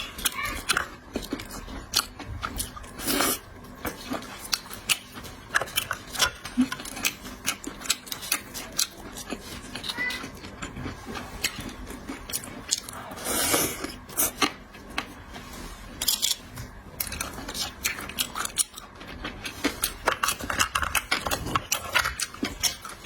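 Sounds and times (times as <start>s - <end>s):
chewing and biting seafood: 0.0s - 23.0s.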